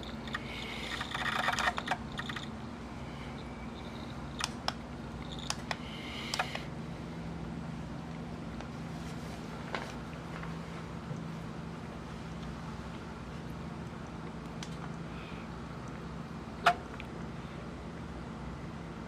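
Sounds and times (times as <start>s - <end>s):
cassette mechanism humming: 0.0s - 19.0s.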